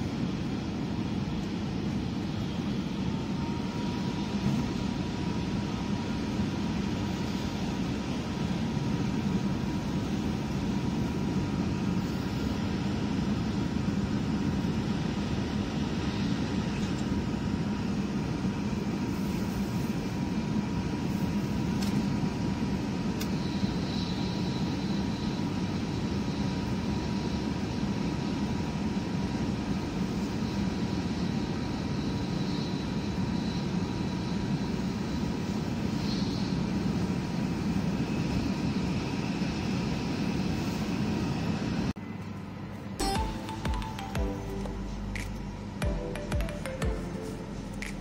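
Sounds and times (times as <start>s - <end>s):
faint steady whine: 0.0s - 48.0s.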